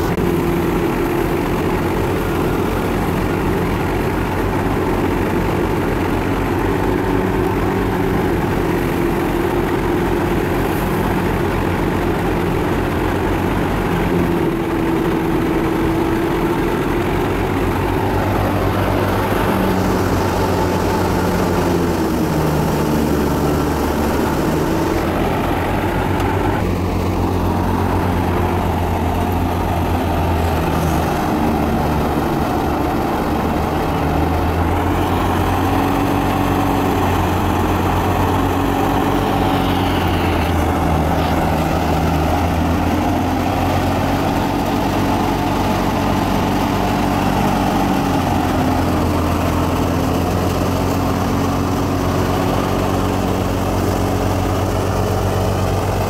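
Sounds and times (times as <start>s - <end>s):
thresher mechanical whir: 0.0s - 56.0s
tractor engine running: 0.0s - 56.0s.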